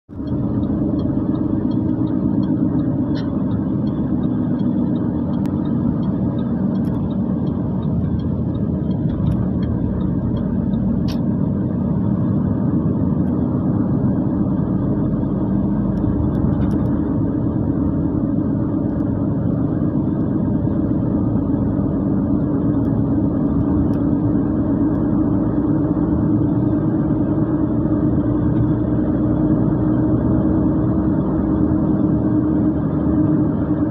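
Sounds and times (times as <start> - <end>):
car cabin engine and road noise: 0.1 - 33.9.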